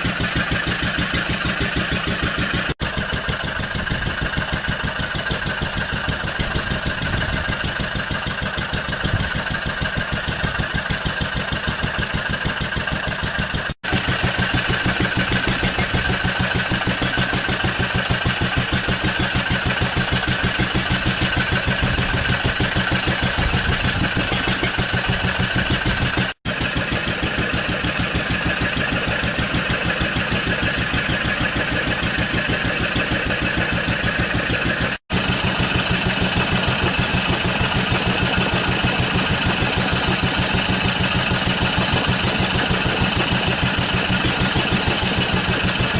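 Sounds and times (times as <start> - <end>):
air compressor chugging: 0.0 - 45.9.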